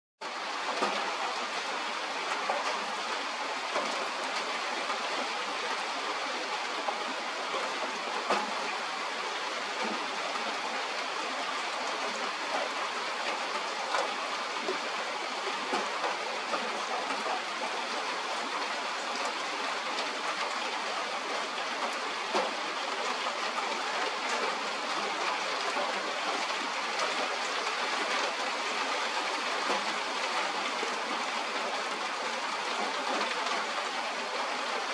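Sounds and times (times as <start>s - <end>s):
steady rain falling: 0.2s - 34.9s.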